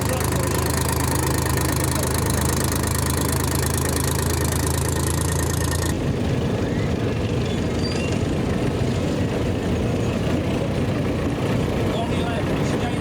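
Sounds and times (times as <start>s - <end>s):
tractor engine idling: 0.0s - 7.4s, 8.1s - 13.0s.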